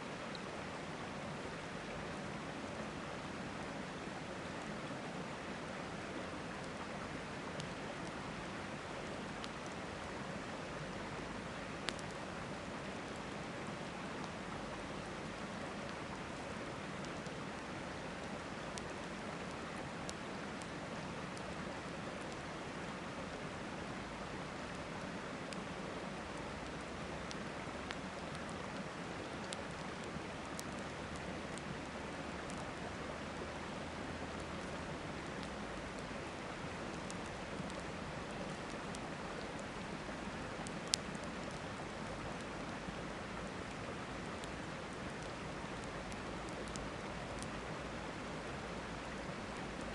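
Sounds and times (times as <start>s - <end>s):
river water rushing: 0.0s - 49.9s
campfire crackling: 0.2s - 49.9s.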